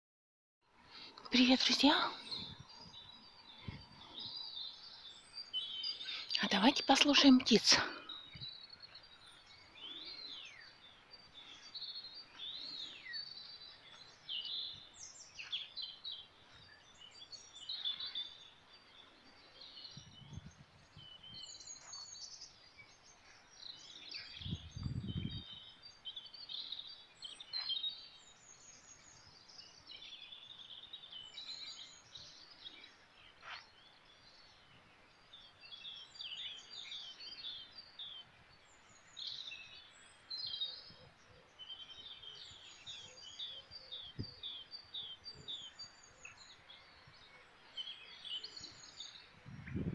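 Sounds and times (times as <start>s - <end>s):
songbirds chirping and trilling: 0.6s - 49.9s.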